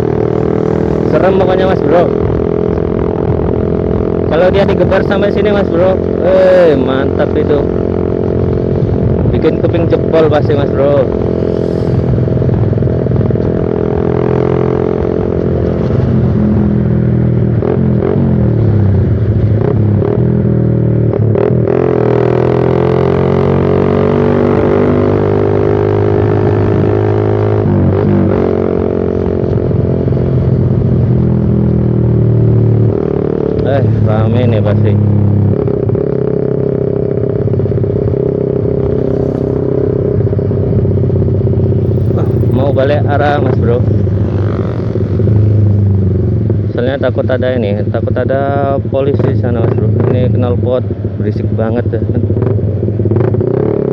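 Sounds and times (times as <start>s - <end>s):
loud motorcycle engine: 0.0s - 53.9s.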